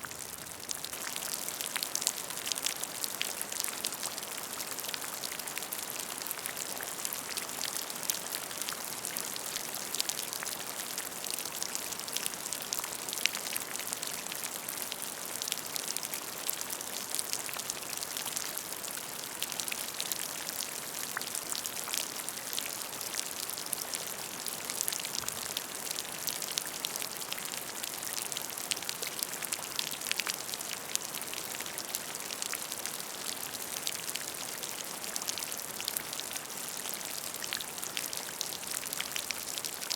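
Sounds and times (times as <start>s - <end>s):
rain falling onto a puddle: 0.0s - 39.9s.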